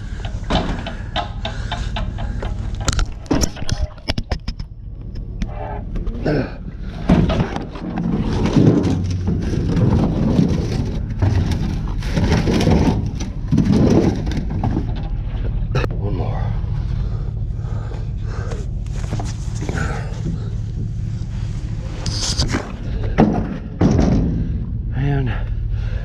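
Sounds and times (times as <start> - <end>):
clattering knocks and scraping: 0.0 - 24.9
steady low hum: 0.0 - 26.0.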